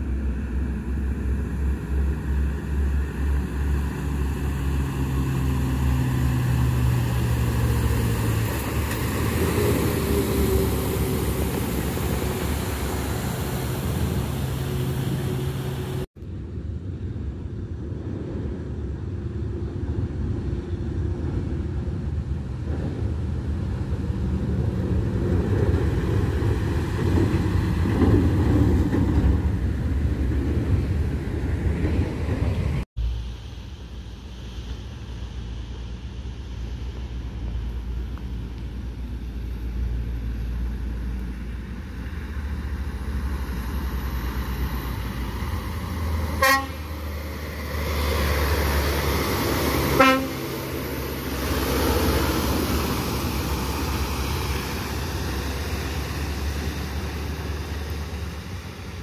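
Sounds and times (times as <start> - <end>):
heavy diesel truck engines: 0.0 - 59.0.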